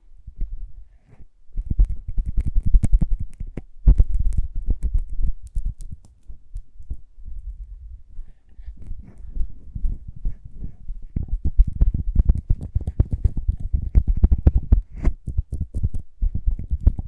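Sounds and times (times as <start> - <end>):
lip balm handled against microphone: 1.6 - 7.0, 8.8 - 17.0.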